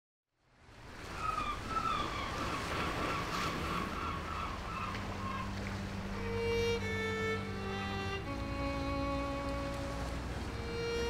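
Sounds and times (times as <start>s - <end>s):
wind: 0.3s - 11.0s
waves: 0.4s - 11.0s.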